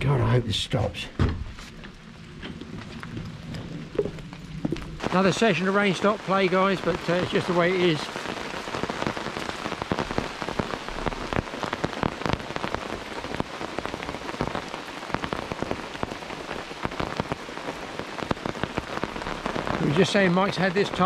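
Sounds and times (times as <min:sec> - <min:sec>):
rain on a tarp: 0:01.5 - 0:21.0.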